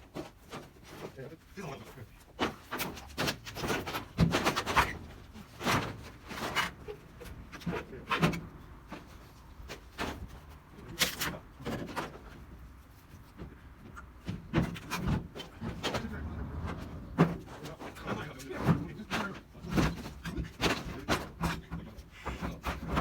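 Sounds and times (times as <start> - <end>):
sheet metal clattering and scraping: 0.1 - 23.0.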